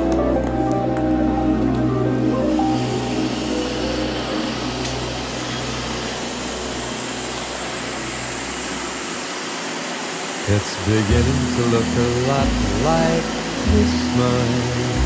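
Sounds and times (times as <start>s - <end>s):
robot vacuums humming: 0.0s - 15.0s.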